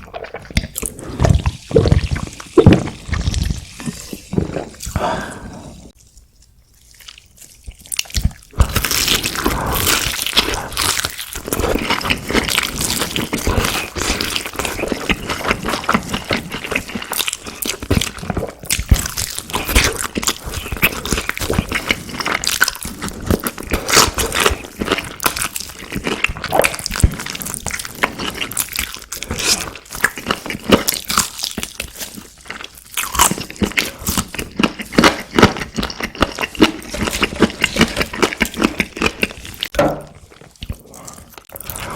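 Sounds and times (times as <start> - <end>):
chewing crunchy food: 0.0 - 41.9.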